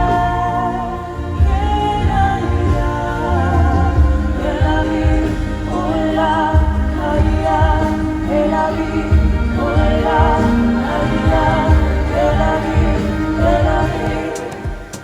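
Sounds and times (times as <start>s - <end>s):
steady low beat: 0.0s - 15.0s
sustained bass notes: 0.0s - 15.0s.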